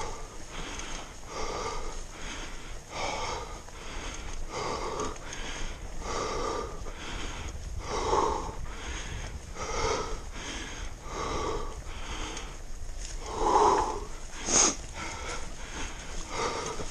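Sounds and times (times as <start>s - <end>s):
person breathing hard and wheezing: 0.0s - 16.9s.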